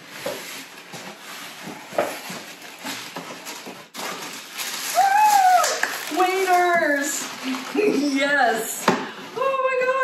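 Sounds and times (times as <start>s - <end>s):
cardboard and paper rustling: 0.0s - 9.4s.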